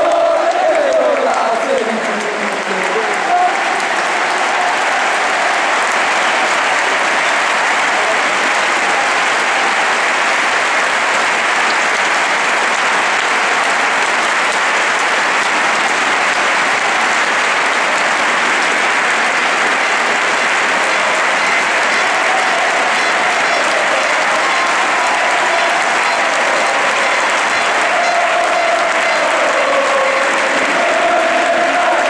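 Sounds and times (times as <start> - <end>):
stadium crowd applauding: 0.0 - 32.0.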